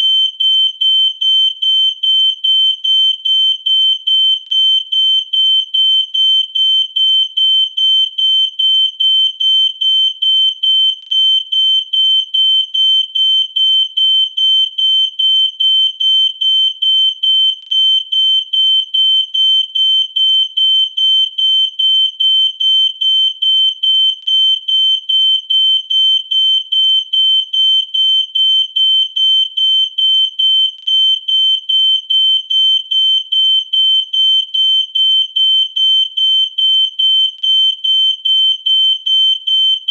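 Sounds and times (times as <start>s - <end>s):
smoke alarm beeping: 0.0s - 39.9s.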